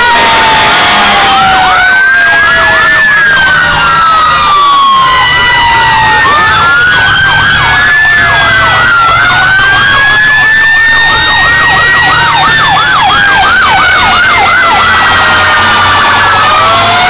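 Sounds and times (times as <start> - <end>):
siren wail: 0.0 - 17.0
siren yelp: 0.0 - 17.0.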